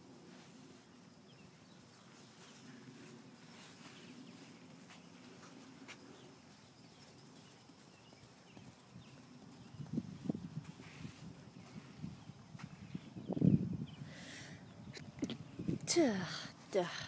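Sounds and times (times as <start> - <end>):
hoofbeats in soft sand: 0.0 - 14.0.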